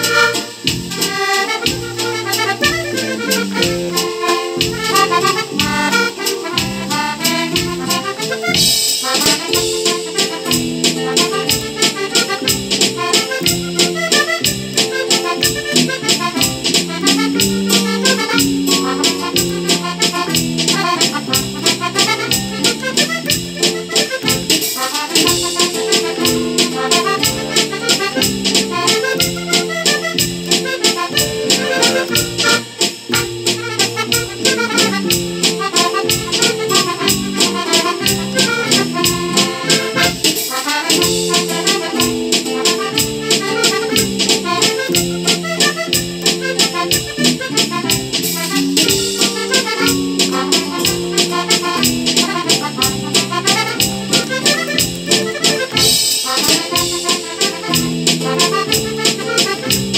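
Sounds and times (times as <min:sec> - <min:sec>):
button accordion waltz melody: 0:00.0 - 0:59.9
programmed backing track: 0:00.0 - 0:59.9.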